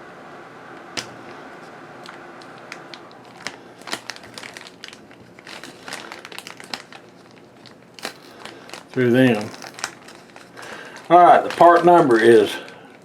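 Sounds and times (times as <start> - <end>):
packaging crinkling: 2.0 - 13.0.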